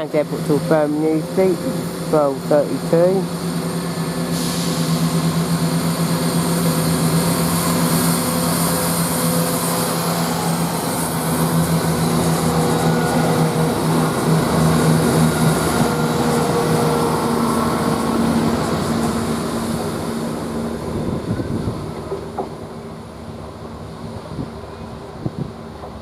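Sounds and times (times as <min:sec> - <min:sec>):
diesel train engines droning: 0:00.0 - 0:26.0.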